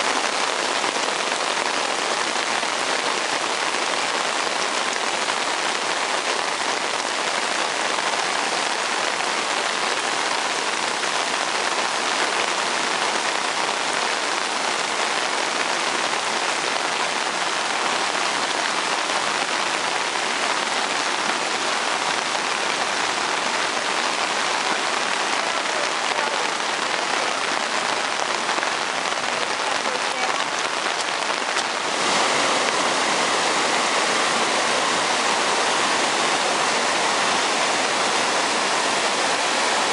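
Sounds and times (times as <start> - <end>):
rain falling on trees and rocks: 0.0 - 39.9.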